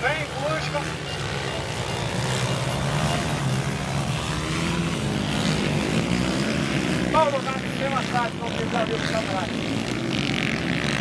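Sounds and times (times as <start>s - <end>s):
motocross bike engines droning: 0.0s - 11.0s.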